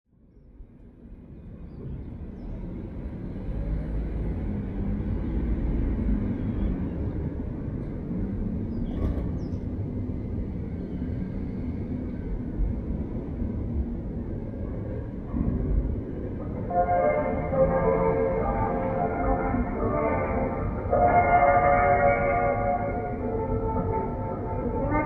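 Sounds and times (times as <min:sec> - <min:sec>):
low rumble of vehicle traffic: 0:00.1 - 0:25.0.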